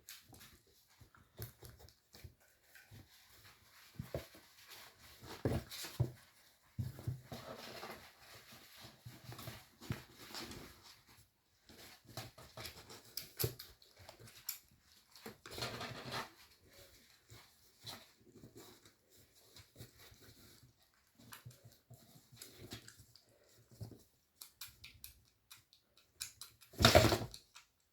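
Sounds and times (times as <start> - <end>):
small clicks and rustles: 0.0 - 27.9.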